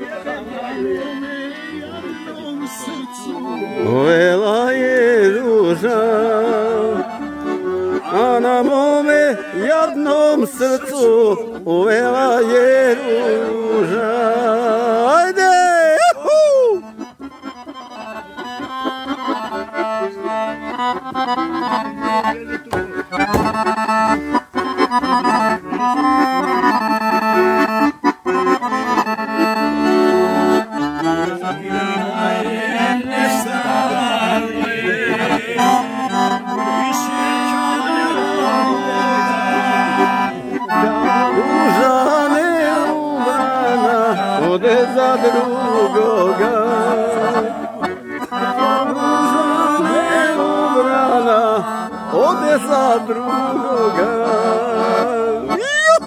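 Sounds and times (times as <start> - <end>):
accordion playing folk melody: 0.0 - 56.0.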